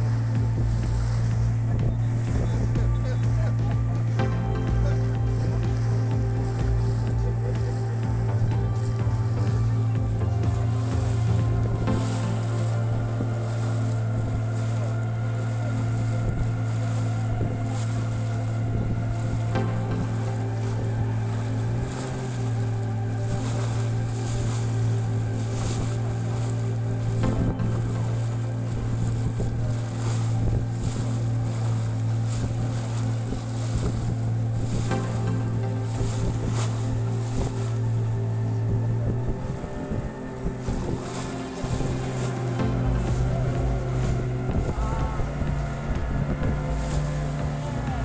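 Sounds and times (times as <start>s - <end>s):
boat engine droning: 0.0s - 48.0s
water rushing past hull: 0.0s - 48.0s
wind buffeting microphone: 0.0s - 48.0s.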